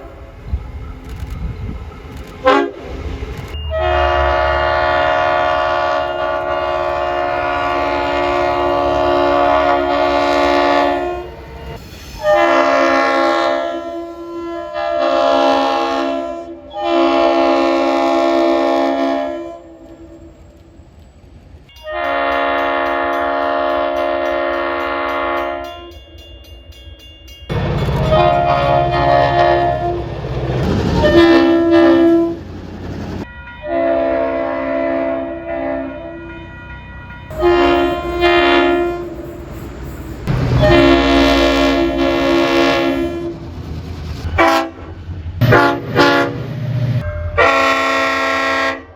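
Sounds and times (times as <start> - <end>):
moving train rumble: 0.0 - 48.9
train air horn blasts: 2.4 - 20.5, 21.8 - 25.9, 27.9 - 30.2, 30.8 - 32.4, 33.6 - 39.6, 40.3 - 43.4, 44.4 - 48.9.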